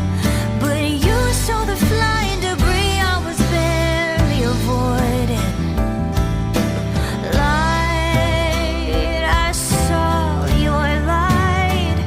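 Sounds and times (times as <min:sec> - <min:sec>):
pop song with singing: 0:00.0 - 0:12.0.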